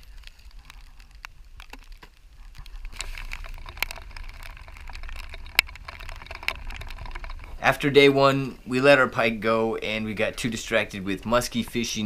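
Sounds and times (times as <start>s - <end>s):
raindrops ticking on a boat: 0.0s - 12.0s.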